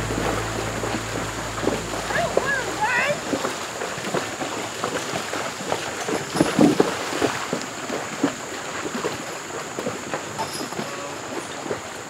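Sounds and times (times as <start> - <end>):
hooves splashing in water: 0.0 - 12.0.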